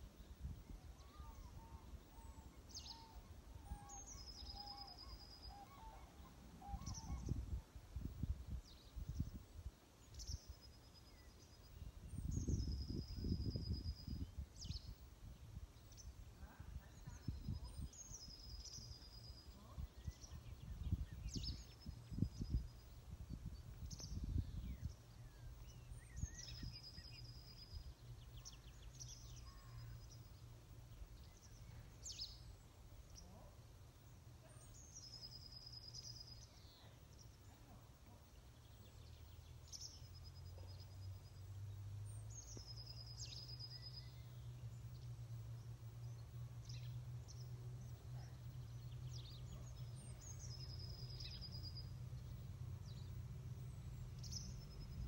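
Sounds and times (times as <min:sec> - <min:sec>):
faint low rumble: 0:00.0 - 0:55.0
songbird singing with trill: 0:00.0 - 0:55.0.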